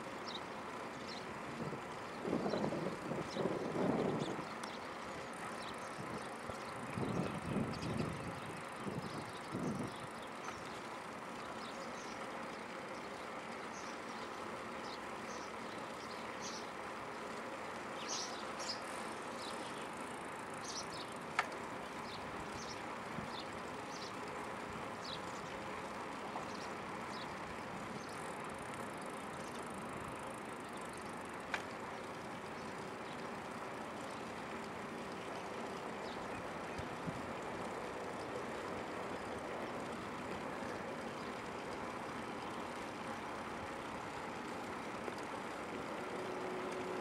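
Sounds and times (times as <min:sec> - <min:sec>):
car road and engine noise: 0:00.0 - 0:47.0.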